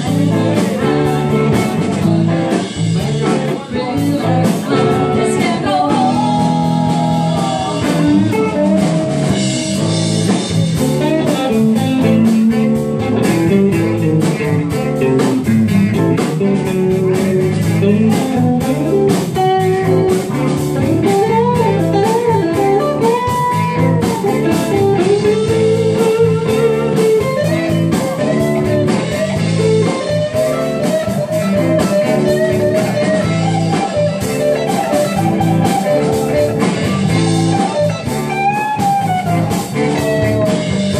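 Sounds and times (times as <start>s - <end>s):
blues-rock band playing: 0.0s - 40.9s
sliding lead guitar line: 0.0s - 40.9s.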